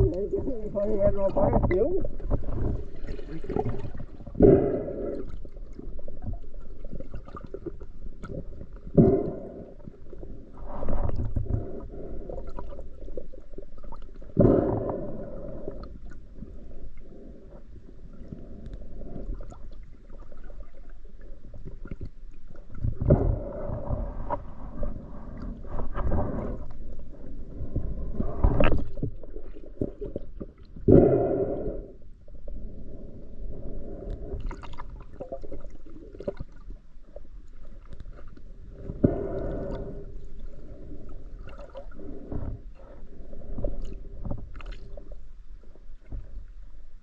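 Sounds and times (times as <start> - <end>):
underwater water sloshing: 0.0 - 47.0.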